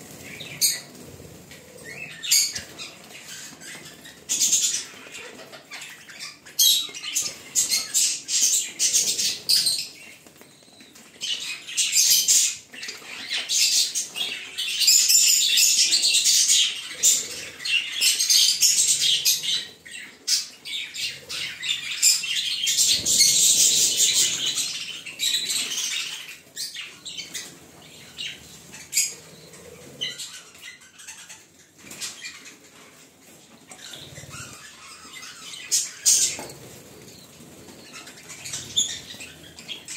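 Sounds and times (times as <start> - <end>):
budgerigars chattering and chirping: 0.2 - 10.2, 10.8 - 32.6, 33.7 - 39.9.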